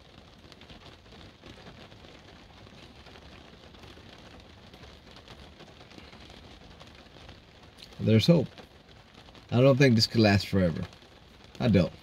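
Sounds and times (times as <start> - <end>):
rain pattering on car roof: 0.0 - 12.0.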